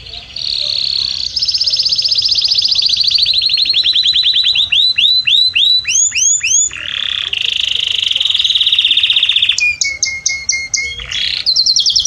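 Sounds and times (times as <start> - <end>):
canary singing a high trill: 0.0 - 12.0.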